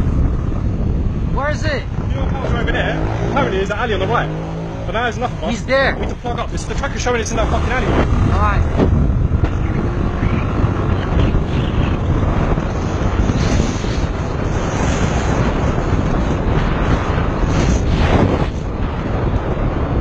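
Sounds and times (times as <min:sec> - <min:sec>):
motorcycle engine running: 0:00.0 - 0:17.8
wind buffeting microphone: 0:00.0 - 0:20.0.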